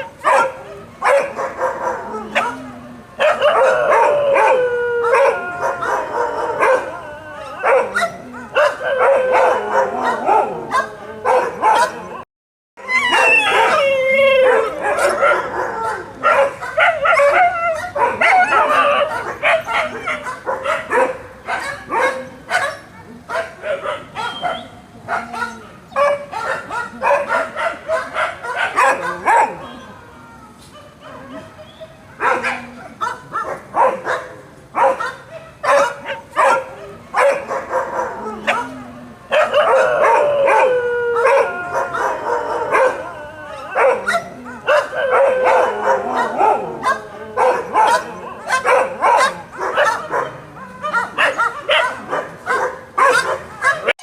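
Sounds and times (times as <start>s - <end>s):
dogs barking aggressively: 0.0s - 12.2s, 13.0s - 29.8s, 32.2s - 54.0s
dogs wavering cries: 0.0s - 12.2s, 12.8s - 54.0s.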